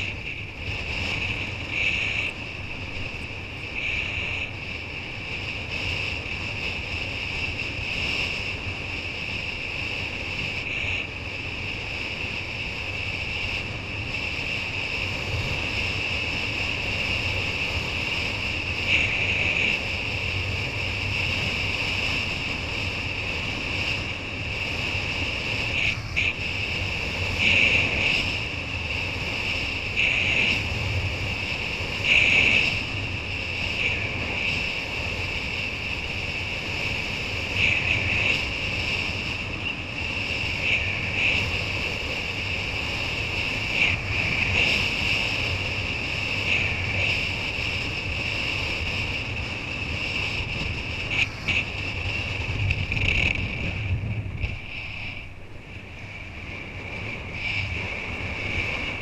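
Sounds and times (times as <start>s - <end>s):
high-pitched whine: 0.0s - 59.0s
wind rushing over microphone: 0.0s - 59.0s.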